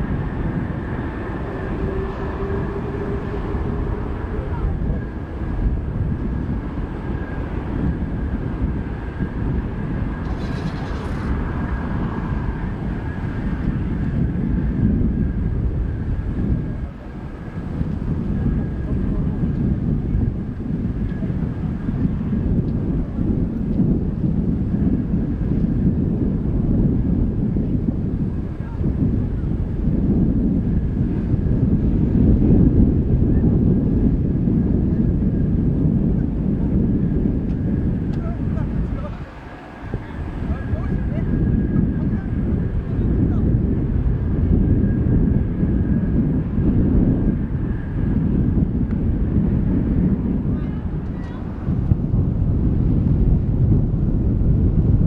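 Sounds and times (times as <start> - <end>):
faint high engine whine: 0.0 - 54.5
jet engines roaring: 0.0 - 54.9
wind buffeting microphone: 0.0 - 55.0.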